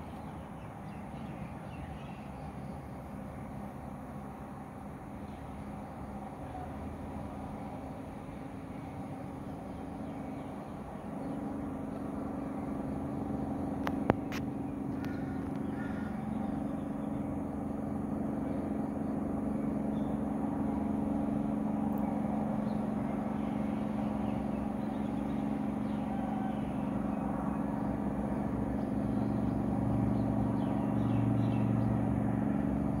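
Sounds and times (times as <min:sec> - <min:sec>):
motor droning: 0:00.0 - 0:33.0.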